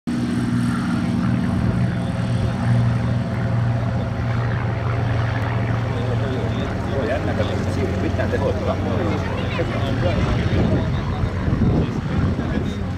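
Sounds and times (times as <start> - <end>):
propeller plane engine droning: 0.1 - 12.9.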